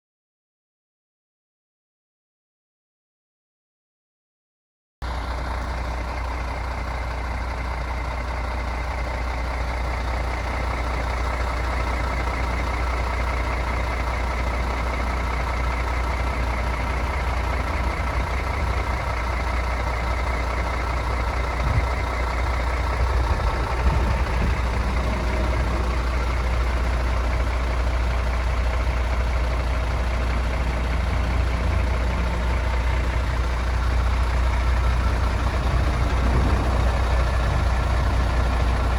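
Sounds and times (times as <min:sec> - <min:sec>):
diesel truck engine running: 0:05.0 - 0:38.9.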